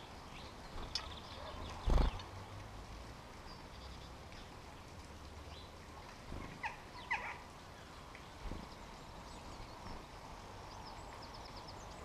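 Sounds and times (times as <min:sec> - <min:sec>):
garden bird chirps: 0:00.0 - 0:12.0.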